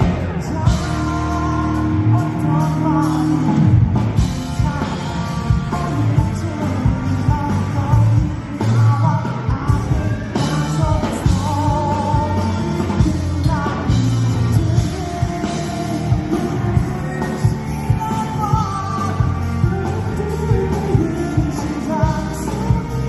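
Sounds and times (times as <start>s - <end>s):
person singing lead vocal: 0.0s - 23.0s
pop-rock band playing: 0.0s - 23.0s.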